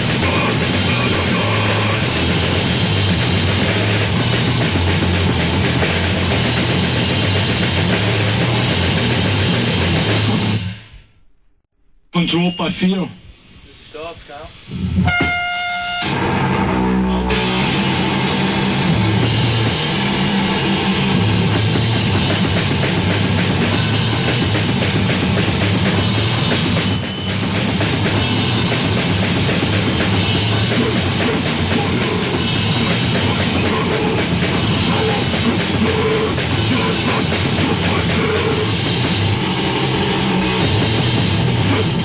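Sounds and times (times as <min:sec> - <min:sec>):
distorted electric guitar riffing: 0:00.0 - 0:10.8, 0:14.5 - 0:42.0
heavy metal band playing: 0:00.0 - 0:10.9, 0:14.1 - 0:42.0
drums: 0:00.0 - 0:42.0.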